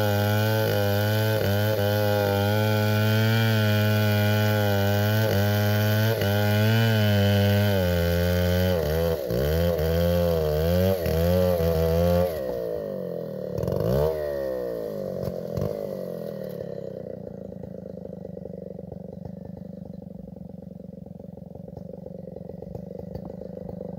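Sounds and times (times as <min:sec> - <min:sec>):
chainsaw engine revving: 0:00.0 - 0:23.9.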